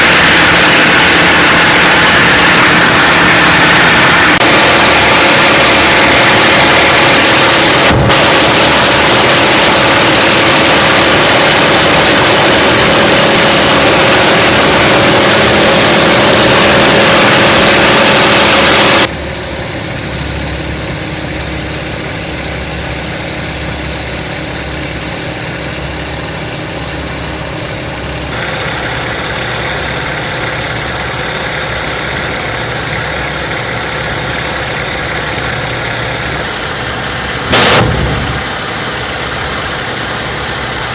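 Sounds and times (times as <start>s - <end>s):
radial aircraft engine running: 0.0s - 40.9s.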